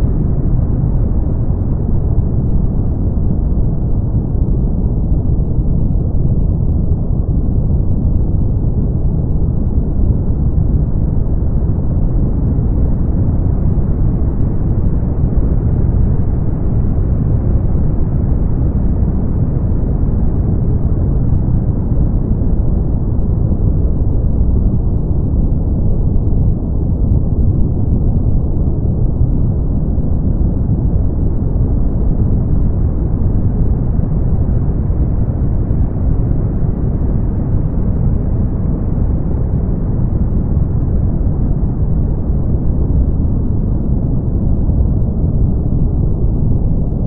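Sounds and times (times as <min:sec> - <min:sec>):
brown noise rumble: 0:00.0 - 0:47.0.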